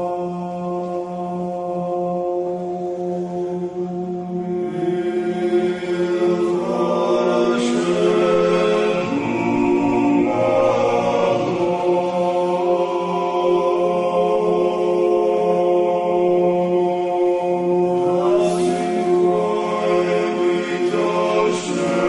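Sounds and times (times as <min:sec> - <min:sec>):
choir singing sacred chant: 0:00.0 - 0:22.0.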